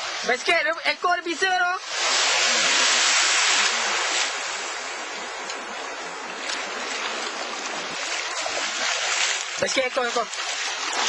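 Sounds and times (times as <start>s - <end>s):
sea surf washing up beach: 0.0s - 11.0s.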